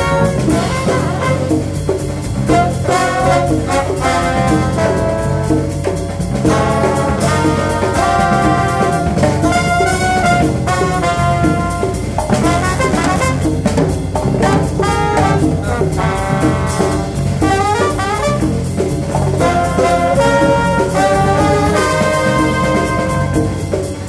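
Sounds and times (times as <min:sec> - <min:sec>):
drum kit groove: 0:00.0 - 0:24.0
horn section playing: 0:00.0 - 0:24.0.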